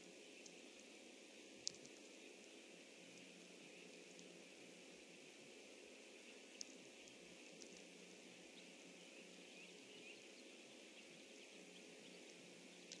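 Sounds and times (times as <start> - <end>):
faint pond hiss: 0.0 - 13.0.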